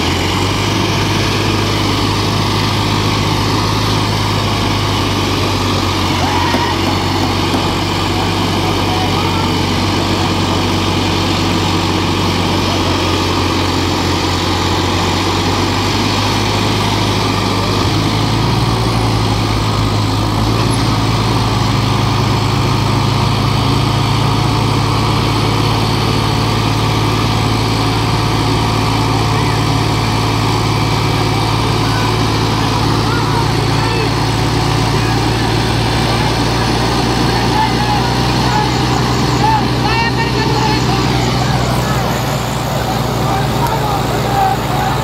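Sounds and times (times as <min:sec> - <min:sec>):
diesel tractor engines running: 0:00.0 - 0:45.0.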